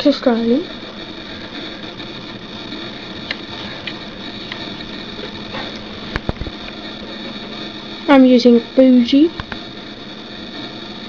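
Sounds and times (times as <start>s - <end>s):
computer whirring with low hum: 0.0s - 11.0s.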